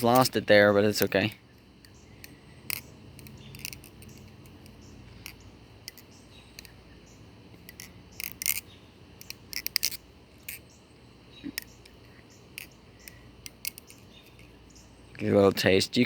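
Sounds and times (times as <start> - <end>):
butterfly knife clacking: 0.0 - 6.8, 7.6 - 10.7, 11.4 - 14.6.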